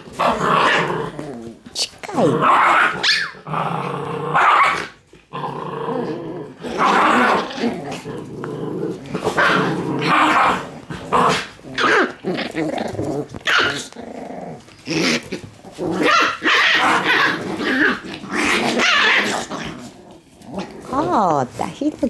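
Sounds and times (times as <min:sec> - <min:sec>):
puppies growling and yapping: 0:00.0 - 0:21.6.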